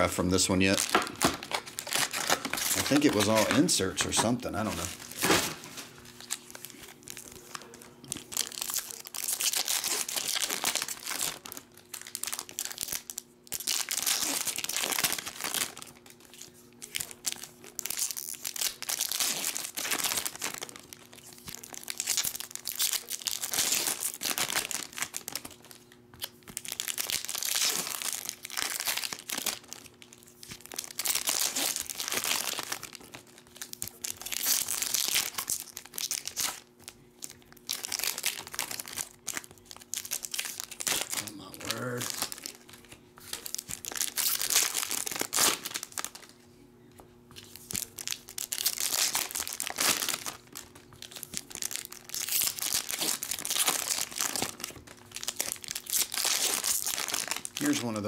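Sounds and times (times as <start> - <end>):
foil wrappers tearing and crinkling: 0.2 - 46.4, 47.4 - 58.0.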